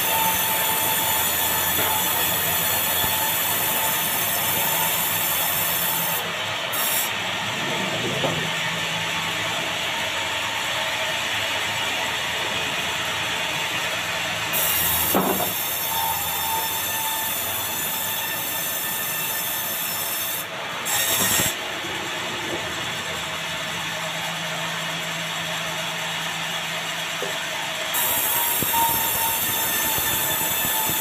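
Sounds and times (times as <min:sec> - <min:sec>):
band saw cutting log: 0:00.0 - 0:31.0.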